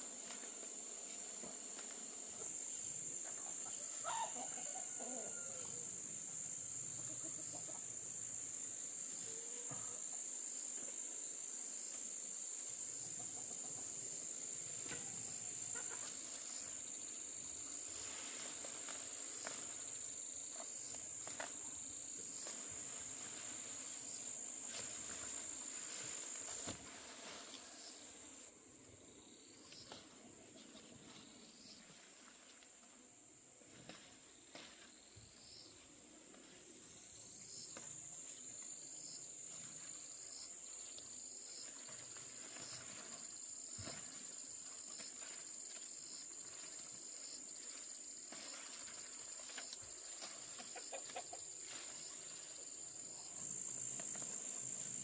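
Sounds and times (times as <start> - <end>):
insects buzzing: 0.0 - 32.4, 33.0 - 55.0.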